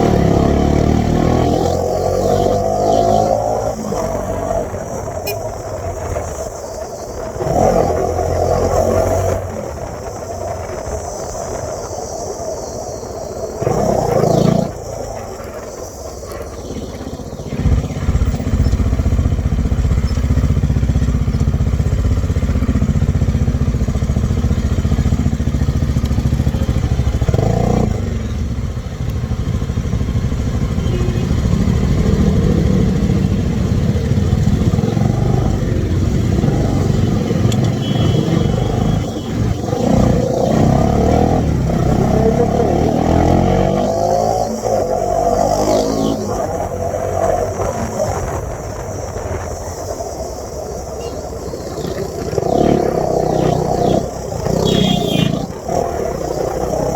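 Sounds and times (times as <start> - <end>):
motorcycle engine revving: 0.0 - 6.4, 7.4 - 10.2, 13.6 - 56.9.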